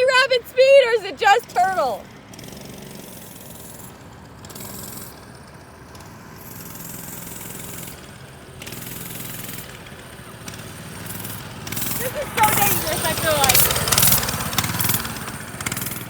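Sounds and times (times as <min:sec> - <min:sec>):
mini bike engine running: 0:00.0 - 0:16.0.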